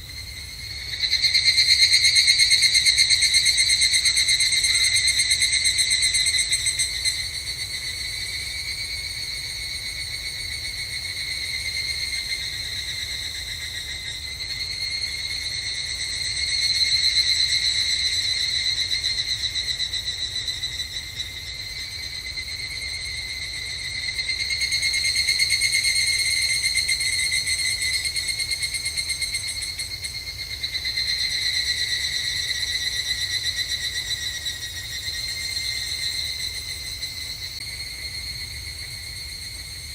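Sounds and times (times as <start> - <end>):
cicadas chorus pulsing trill: 0.0 - 39.9.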